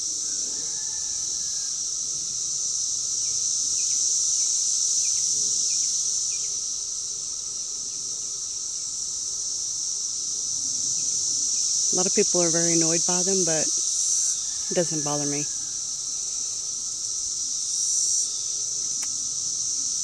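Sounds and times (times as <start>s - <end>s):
cicadas chorus shrill hum: 0.0s - 20.0s.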